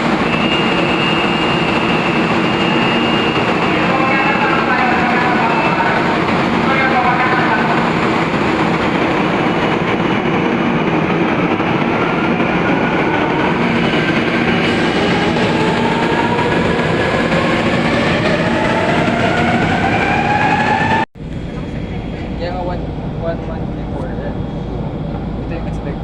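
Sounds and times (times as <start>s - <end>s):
train whine rising in pitch: 0.0s - 25.8s
train rail noise: 0.0s - 26.0s.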